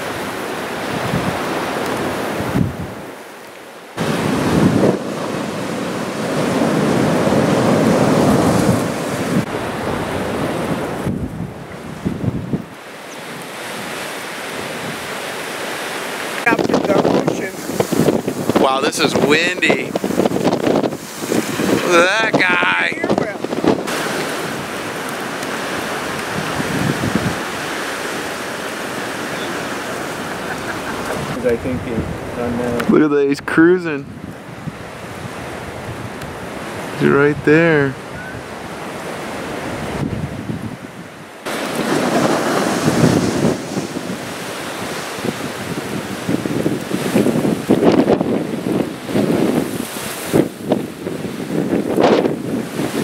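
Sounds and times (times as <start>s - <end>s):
wind buffeting microphone: 0.0s - 3.2s, 4.0s - 15.2s, 16.4s - 53.0s
breaking surf: 0.0s - 53.0s.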